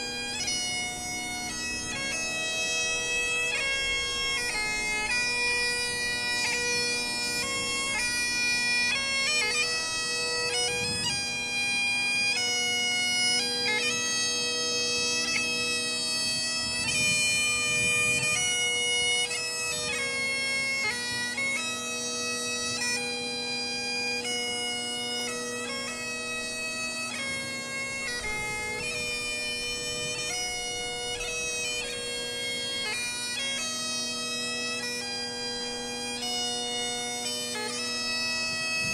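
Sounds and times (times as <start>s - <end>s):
bagpipe drones: 0.0s - 38.9s
bagpipe melody: 0.0s - 38.9s.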